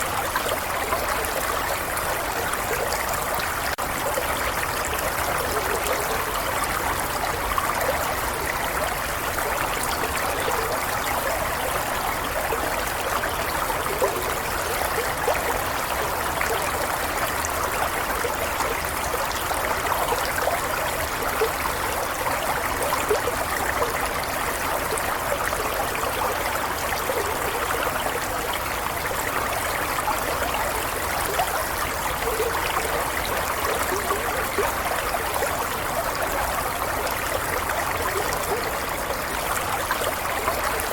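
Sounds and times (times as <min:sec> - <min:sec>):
water babbling and trickling: 0:00.0 - 0:40.9.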